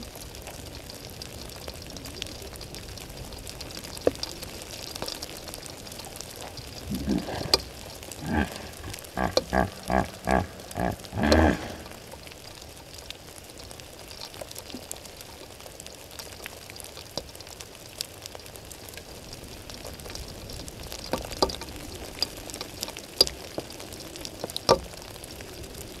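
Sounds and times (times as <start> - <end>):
raindrops ticking: 0.0 - 26.0
steady rain hissing: 0.0 - 26.0.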